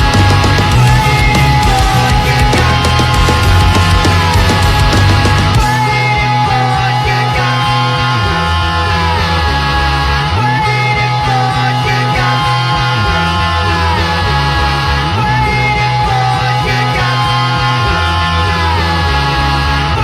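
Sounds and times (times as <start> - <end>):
live metal band playing: 0.0 - 20.0.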